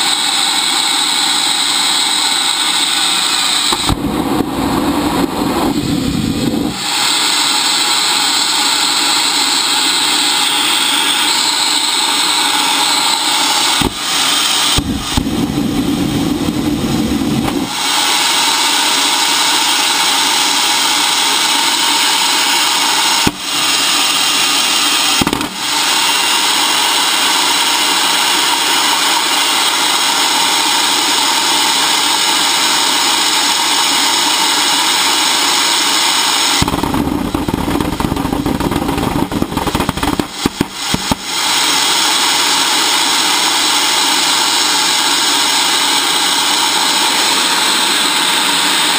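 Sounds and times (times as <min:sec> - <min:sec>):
jet engine rushing with whine: 0:00.0 - 0:48.9.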